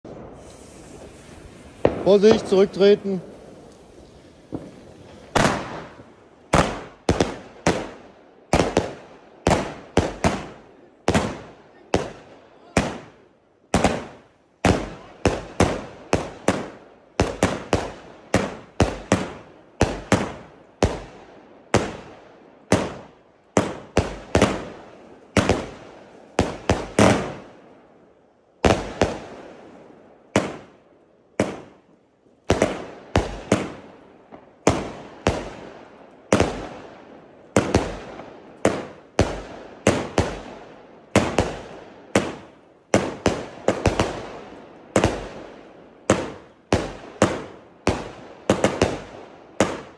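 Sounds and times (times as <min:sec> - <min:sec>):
firework battery bangs echoing: 0:00.0 - 0:22.1, 0:22.7 - 0:27.6, 0:28.6 - 0:30.8, 0:37.5 - 0:49.9.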